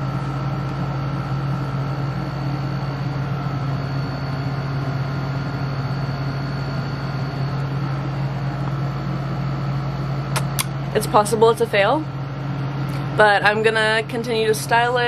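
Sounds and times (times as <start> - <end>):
faint high whine: 0.0 - 15.0
low machine drone: 0.0 - 15.0.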